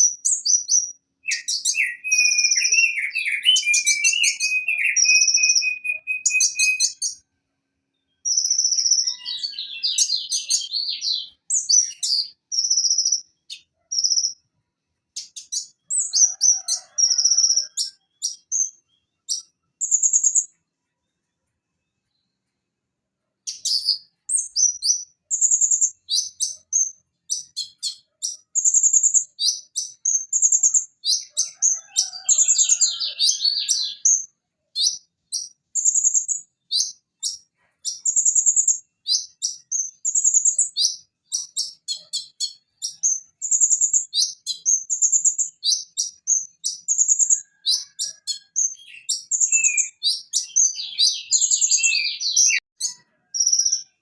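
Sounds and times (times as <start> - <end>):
sunbird chirping and trilling: 0.0 - 7.3, 7.9 - 14.5, 15.1 - 20.6, 23.4 - 54.0.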